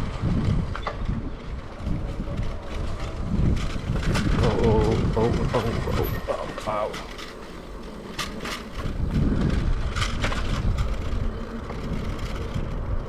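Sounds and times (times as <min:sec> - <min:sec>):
tyre rumble: 0:00.0 - 0:13.0
wind on microphone: 0:00.0 - 0:13.0.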